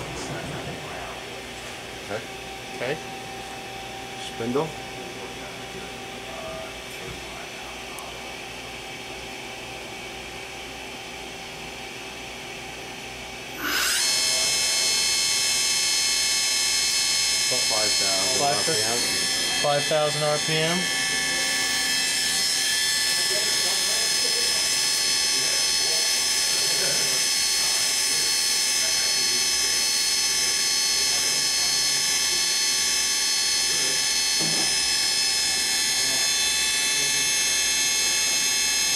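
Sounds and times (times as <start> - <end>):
machine humming: 0.0 - 38.9
spindle high-pitched whine: 0.0 - 38.9.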